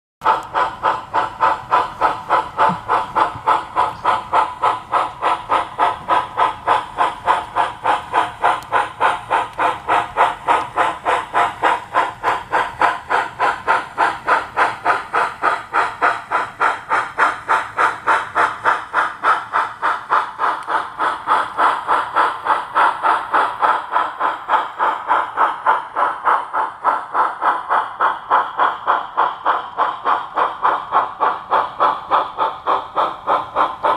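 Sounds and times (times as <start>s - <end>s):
model steam locomotive chuffing: 0.2s - 33.9s
steam hiss: 0.2s - 33.9s.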